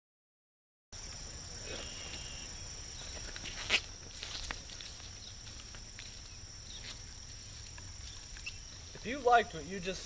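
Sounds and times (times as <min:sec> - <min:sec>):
insects droning: 0:00.9 - 0:10.0
footsteps through tall grass: 0:01.8 - 0:10.0.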